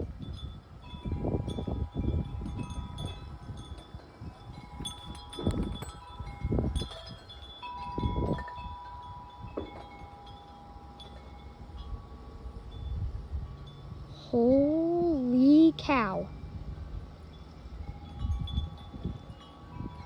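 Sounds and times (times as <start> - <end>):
wind buffeting microphone: 0.0 - 14.5, 15.5 - 20.0
wind chimes ringing: 0.0 - 14.5, 15.3 - 20.0.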